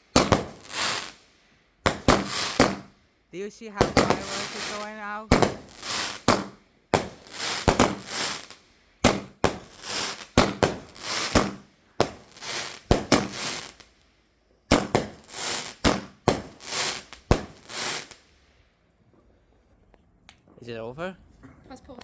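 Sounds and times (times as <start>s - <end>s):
firework bangs: 0.0s - 14.0s, 14.7s - 18.4s
firework hiss: 0.0s - 14.0s, 14.7s - 18.6s.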